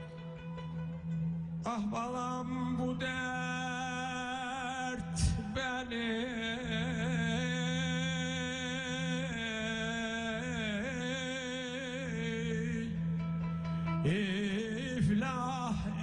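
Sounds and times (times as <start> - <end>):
man singing folk song: 1.6 - 13.2, 14.0 - 16.0.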